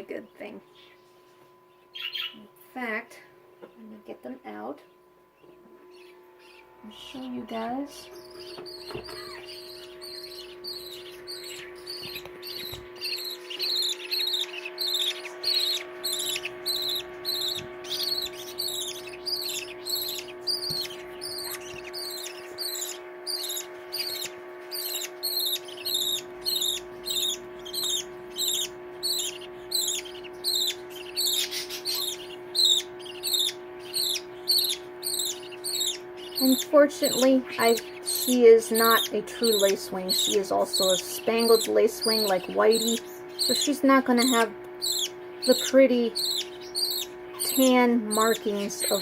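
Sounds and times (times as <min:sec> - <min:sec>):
steady hum: 0:00.0 - 0:49.0
bird chicks chirping: 0:00.1 - 0:02.5, 0:04.8 - 0:49.0.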